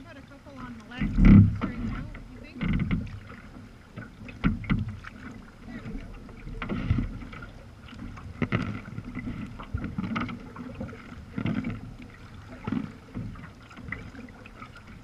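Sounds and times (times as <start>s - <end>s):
paddle strokes splashing water: 0.0s - 15.0s.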